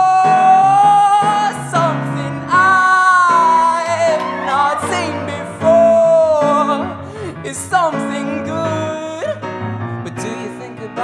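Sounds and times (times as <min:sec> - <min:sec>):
man singing wordless notes: 0:00.0 - 0:11.0.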